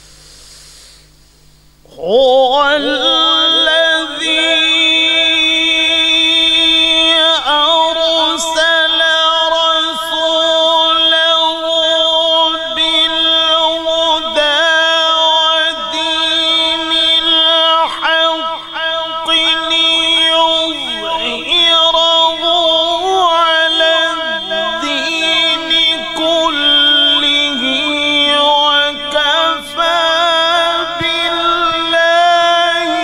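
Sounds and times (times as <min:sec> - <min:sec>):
man reciting melodically: 0:01.8 - 0:33.0.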